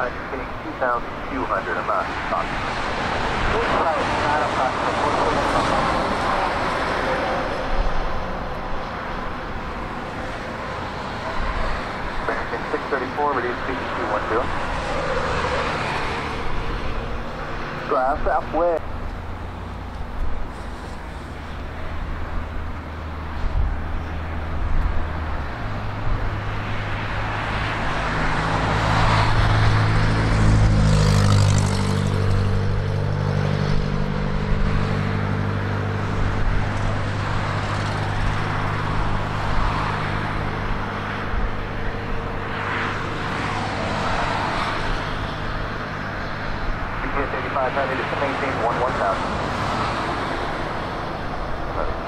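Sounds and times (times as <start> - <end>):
engine humming: 0.0 - 52.0.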